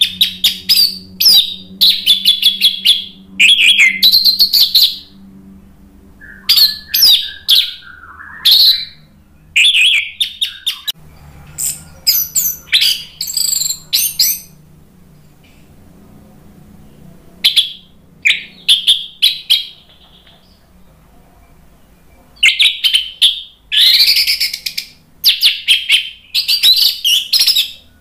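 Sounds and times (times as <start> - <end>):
thrush singing: 0.0 - 28.0.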